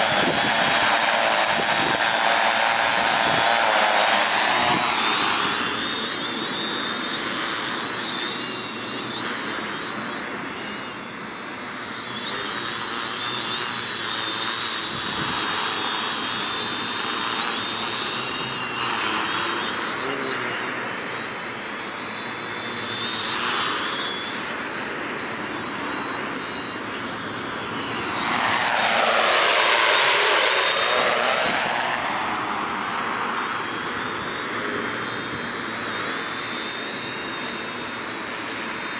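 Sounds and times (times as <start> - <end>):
drone buzzing with high whine: 0.0 - 38.9.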